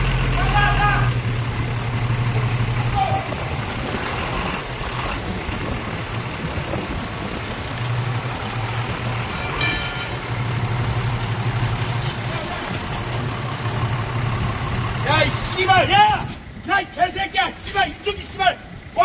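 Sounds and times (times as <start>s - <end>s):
forklift engine hum: 0.0s - 19.0s.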